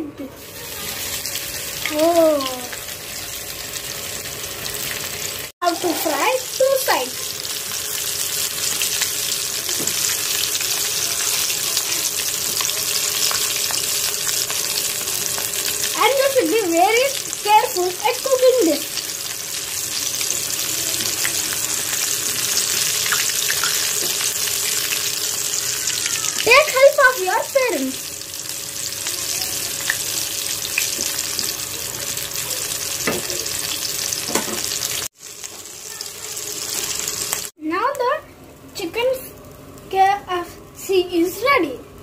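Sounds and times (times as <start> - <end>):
chicken deep-frying in oil: 0.4 - 38.2.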